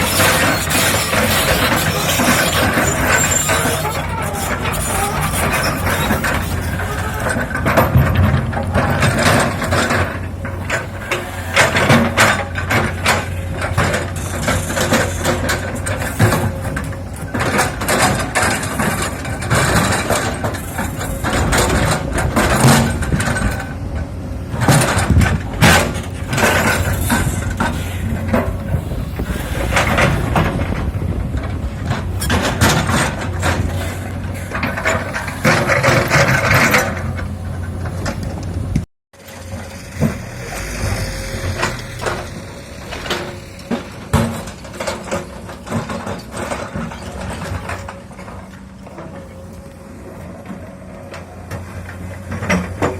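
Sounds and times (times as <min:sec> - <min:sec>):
excavator diesel engine humming: 0:00.0 - 0:52.9.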